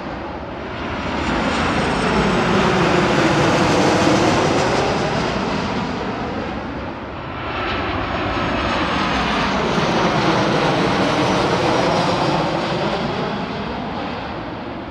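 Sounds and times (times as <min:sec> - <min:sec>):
jet engines roaring overhead: 0:00.0 - 0:14.9.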